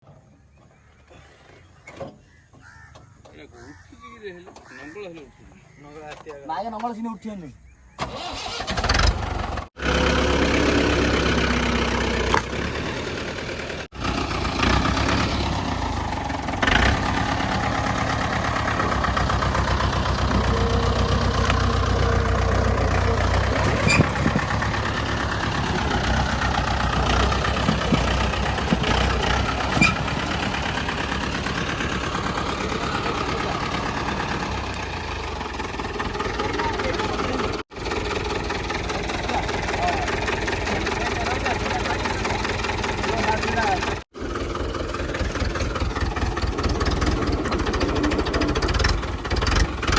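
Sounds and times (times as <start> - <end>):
tractor diesel engine running: 7.8 - 49.9.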